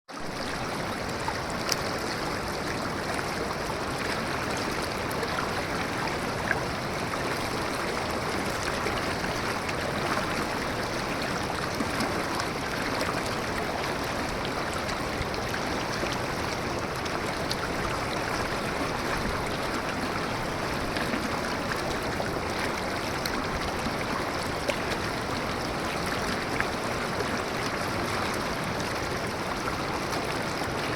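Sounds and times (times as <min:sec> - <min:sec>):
water rushing: 0:00.1 - 0:30.9
water splashes: 0:00.1 - 0:30.9.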